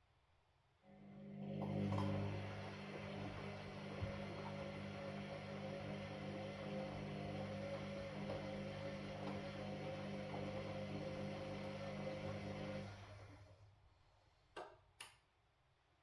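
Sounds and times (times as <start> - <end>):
washing machine humming: 0.9 - 13.8.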